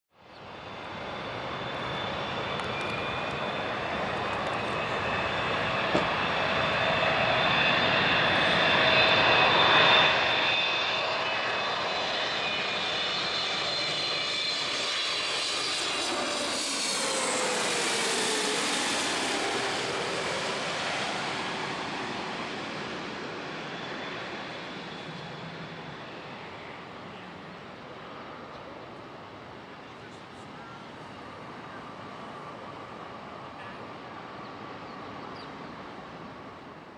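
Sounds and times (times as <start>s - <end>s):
jet engines whining and rumbling: 0.2s - 36.9s.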